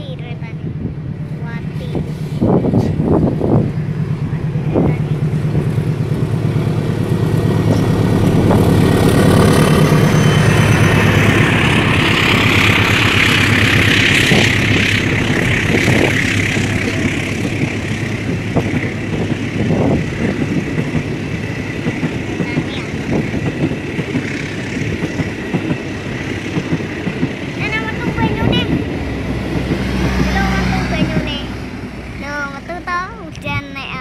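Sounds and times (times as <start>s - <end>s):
diesel locomotive engine humming: 0.0s - 34.0s
train wheels rumbling on rails: 0.0s - 34.0s.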